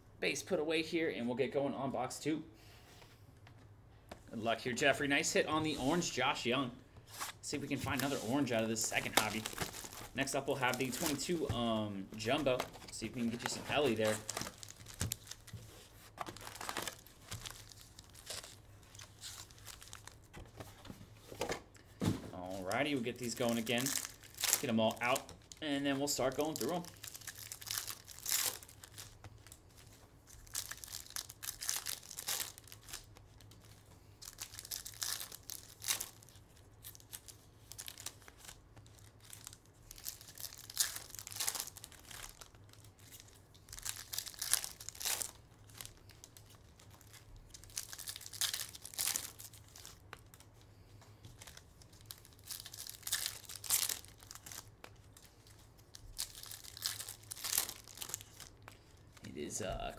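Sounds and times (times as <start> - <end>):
wrappers tearing and crinkling: 7.1 - 20.3, 22.4 - 50.6, 51.3 - 59.4.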